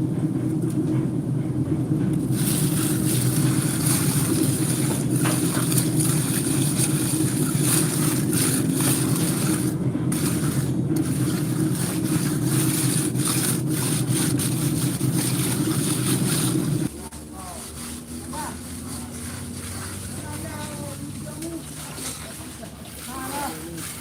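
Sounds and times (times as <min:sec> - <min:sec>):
machinery engine droning: 0:00.0 - 0:24.0.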